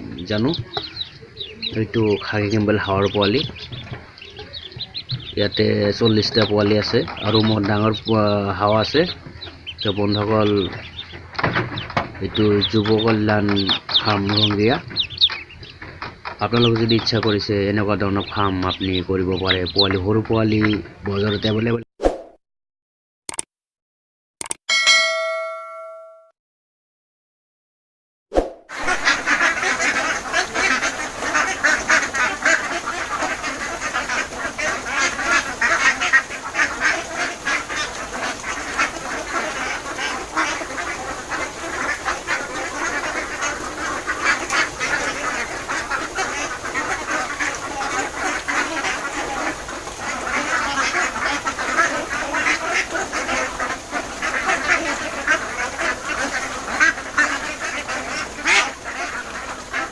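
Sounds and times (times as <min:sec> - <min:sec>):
ducks quacking: 0:00.0 - 0:21.8, 0:28.7 - 0:59.9.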